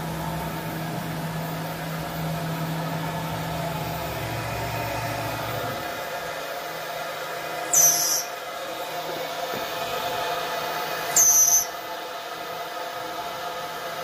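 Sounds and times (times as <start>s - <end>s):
industrial machine humming: 0.0s - 14.0s.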